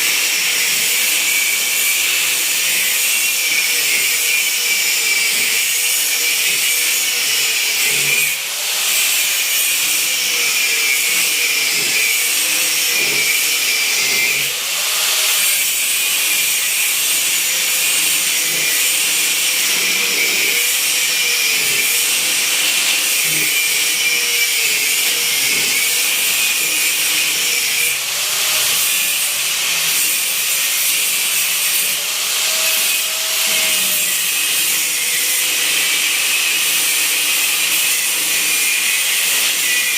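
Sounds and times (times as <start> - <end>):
electric power tool motor: 0.0 - 39.9.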